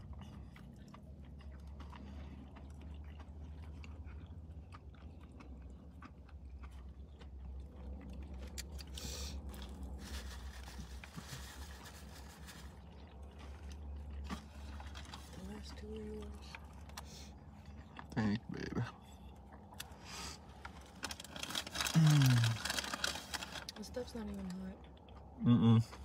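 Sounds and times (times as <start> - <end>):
person chewing and biting food: 0.0 - 15.3, 16.2 - 23.1.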